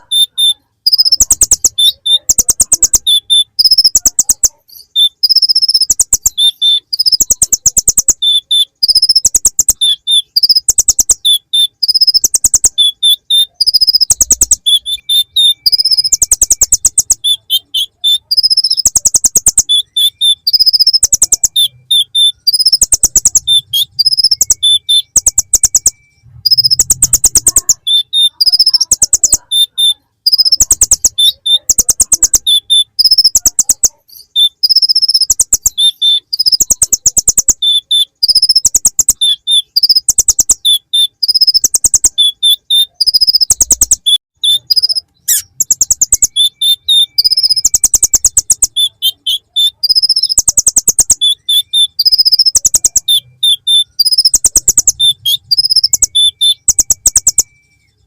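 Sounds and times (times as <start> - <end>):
sunbird trilling song: 0.0 - 58.0.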